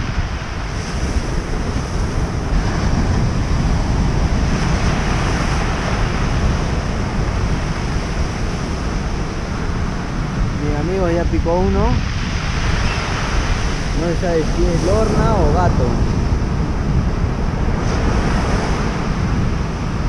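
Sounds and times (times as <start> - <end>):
surf washing over pebbles: 0.0 - 20.0
wind buffeting microphone: 0.0 - 20.0.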